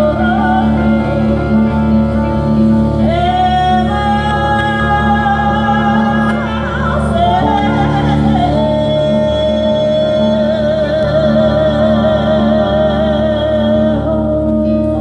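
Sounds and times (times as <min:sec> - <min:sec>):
bass and keyboard: 0:00.0 - 0:15.0
woman singing: 0:00.0 - 0:15.0.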